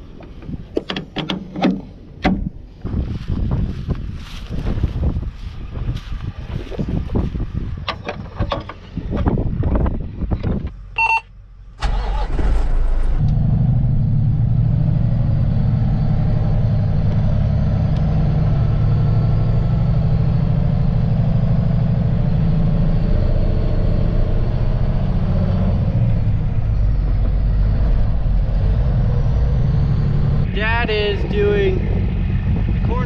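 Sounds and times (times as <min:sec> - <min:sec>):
truck engine running: 0:01.8 - 0:33.0.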